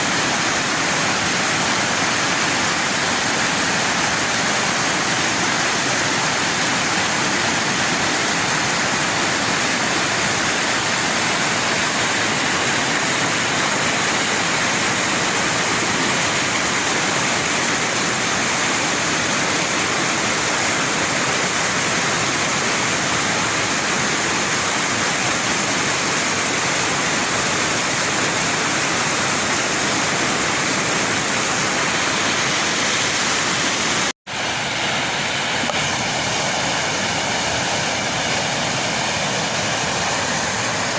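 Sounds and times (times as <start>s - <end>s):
flood water rushing: 0.0s - 40.9s.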